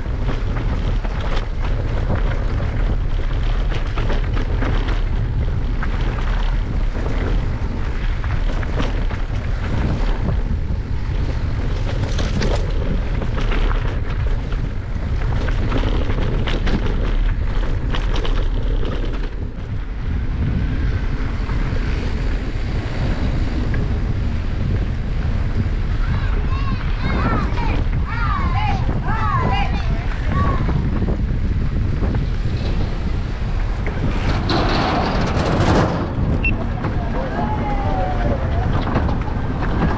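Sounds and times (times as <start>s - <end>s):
bike clicks and rattles: 0.0s - 39.9s
steady deep rumble: 0.0s - 39.9s
wind buffeting microphone: 0.0s - 39.9s.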